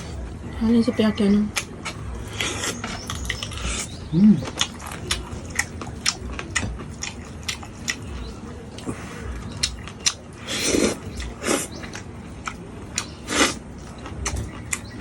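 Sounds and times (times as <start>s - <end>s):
chewing with wet mouth clicks: 1.5s - 15.0s.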